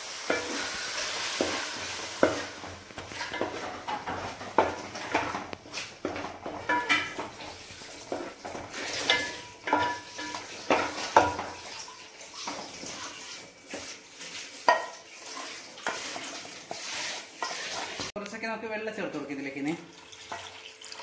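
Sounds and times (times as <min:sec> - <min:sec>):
spatula scraping a pot: 0:00.3 - 0:18.1.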